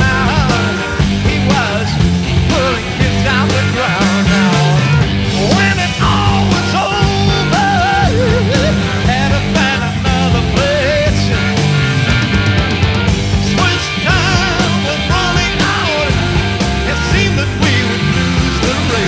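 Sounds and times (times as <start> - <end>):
loud rock music: 0.0 - 19.0.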